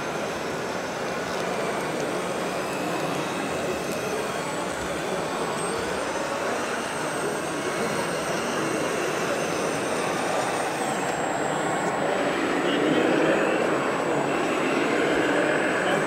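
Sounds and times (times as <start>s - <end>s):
crowd din in indoor hall: 0.0s - 16.0s
faint high whine: 0.0s - 16.0s.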